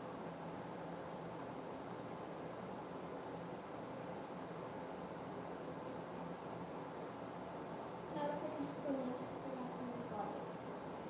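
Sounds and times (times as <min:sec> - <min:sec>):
air conditioner hiss: 0:00.0 - 0:11.0.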